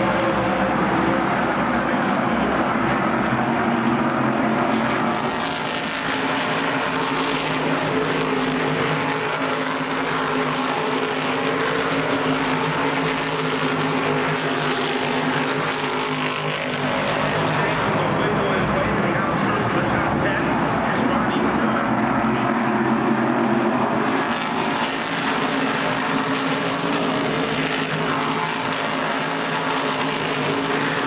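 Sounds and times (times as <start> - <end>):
race car engines roaring: 0.0 - 31.0.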